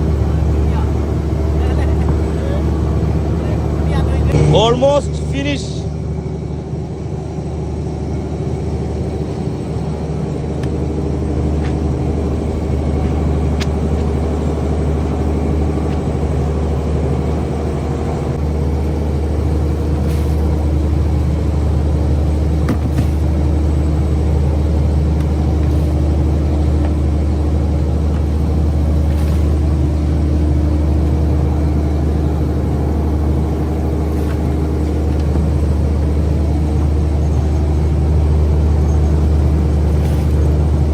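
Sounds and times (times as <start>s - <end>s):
boat engine humming: 0.0s - 40.9s.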